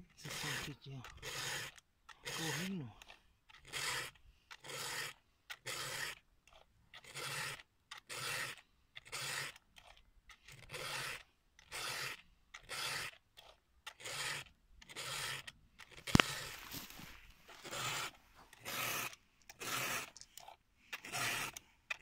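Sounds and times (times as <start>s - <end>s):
file rasping on chainsaw chain: 0.0s - 22.0s.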